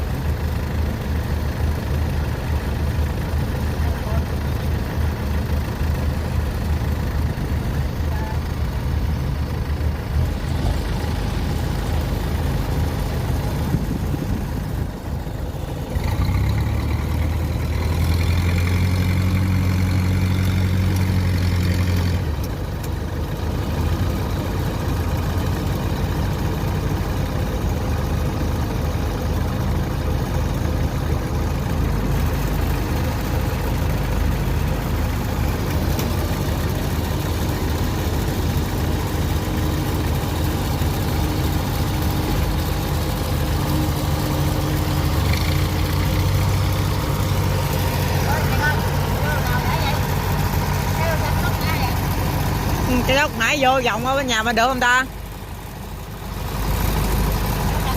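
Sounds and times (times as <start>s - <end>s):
diesel engine running and revving: 0.0s - 57.9s.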